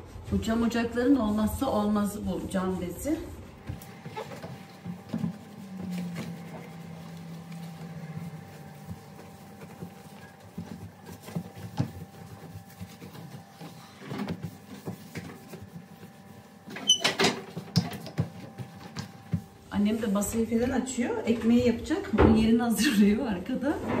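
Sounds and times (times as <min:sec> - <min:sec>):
cloth rubbing on glass: 0:01.0 - 0:20.3.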